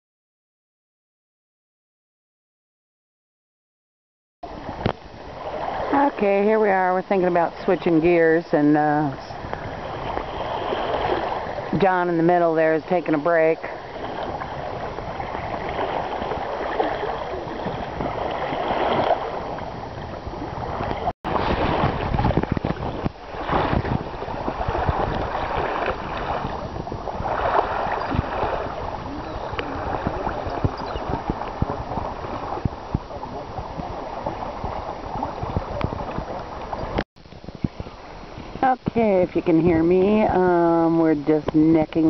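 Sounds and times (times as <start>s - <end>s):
water washing along canoe hull: 4.4s - 42.0s
wind buffeting microphone: 4.5s - 42.0s.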